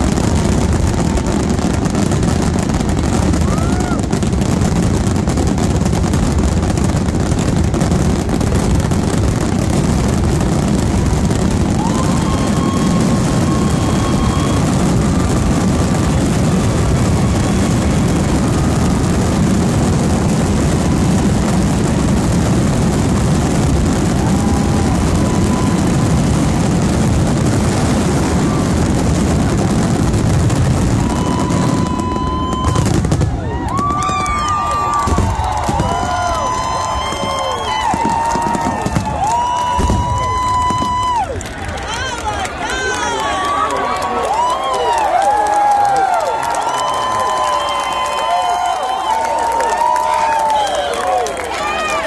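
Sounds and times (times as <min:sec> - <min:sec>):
fireworks bursting in continuous rumble: 0:00.0 - 0:52.0.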